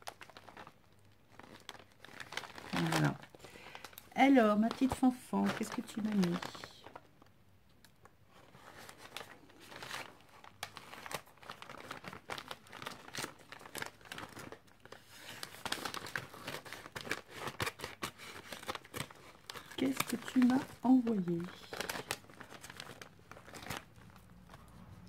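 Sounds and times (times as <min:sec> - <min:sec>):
paper envelope rustling: 0:00.0 - 0:07.1, 0:08.3 - 0:25.0.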